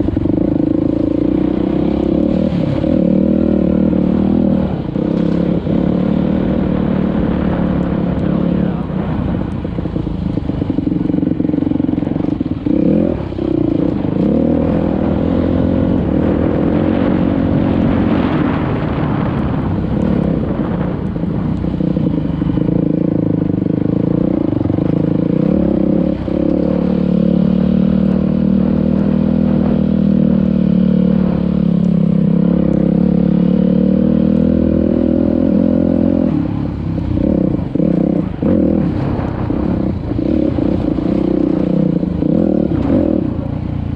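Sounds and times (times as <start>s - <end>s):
dirt bike engine revving: 0.0s - 9.1s, 10.3s - 20.9s, 21.8s - 43.4s.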